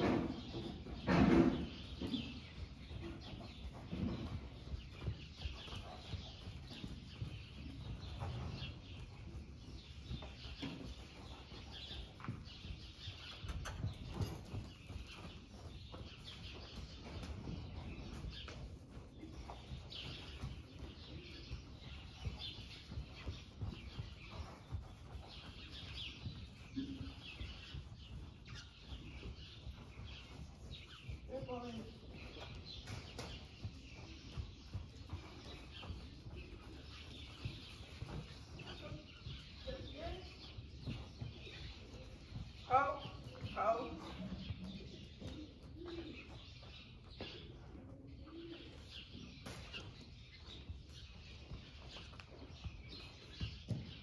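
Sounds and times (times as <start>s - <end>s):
birds chirping: 0.0s - 54.0s
horse hooves on soft footing: 0.0s - 54.0s.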